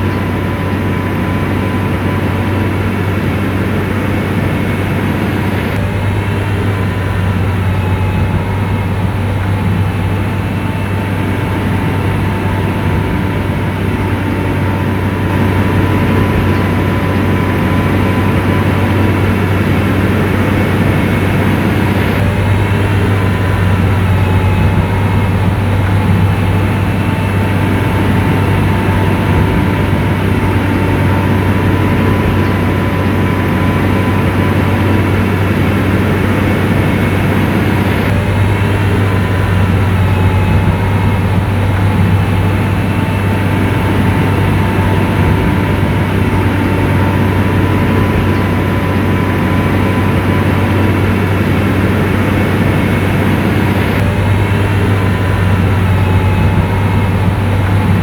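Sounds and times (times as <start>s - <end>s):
diesel engine deep hum: 0.0s - 58.0s
faint engine whine: 0.0s - 58.0s.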